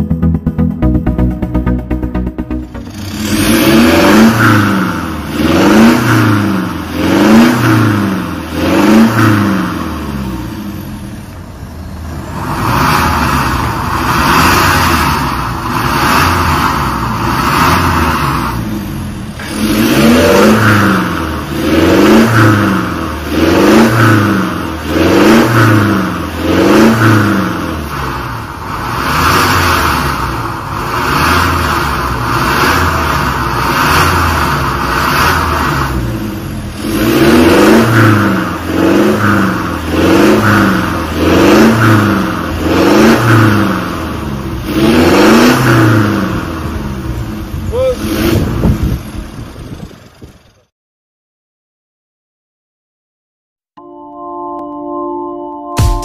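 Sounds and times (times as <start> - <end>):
car engine revving: 0.0 - 50.7.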